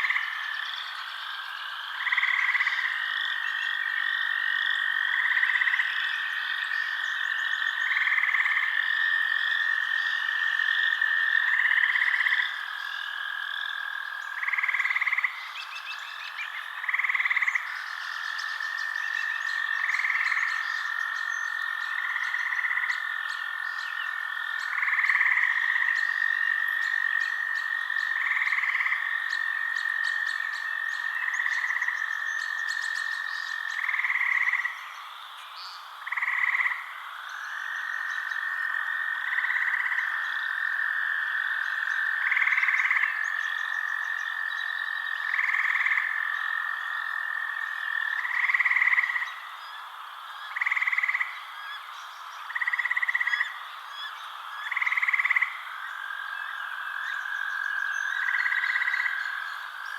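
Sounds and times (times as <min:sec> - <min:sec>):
frogs trilling: 0:00.0 - 0:59.9.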